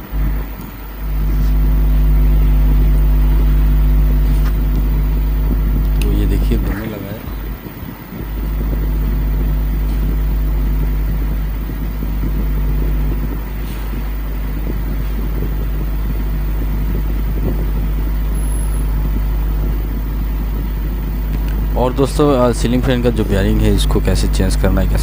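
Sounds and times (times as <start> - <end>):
ceiling fan motor hum: 0.0 - 25.0.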